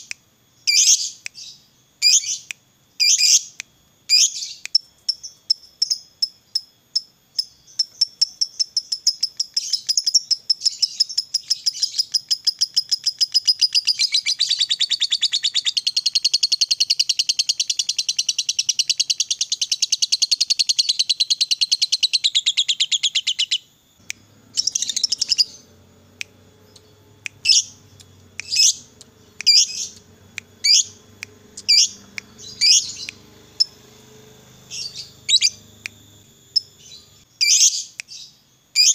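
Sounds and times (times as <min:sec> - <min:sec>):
sharp bird chirps: 0:00.0 - 0:38.9
lovebird chattering trill: 0:07.4 - 0:38.9.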